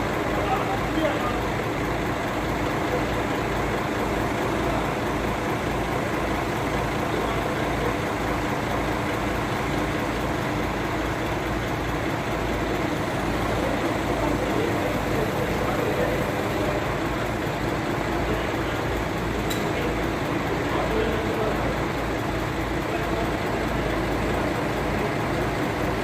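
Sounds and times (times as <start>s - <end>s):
truck engine running steadily: 0.0s - 26.0s.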